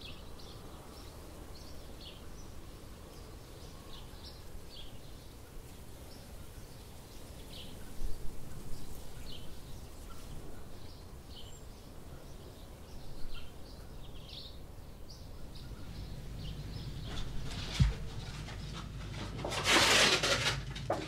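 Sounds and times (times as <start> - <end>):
small birds chirping: 0.0 - 19.4
low background noise: 0.0 - 21.0.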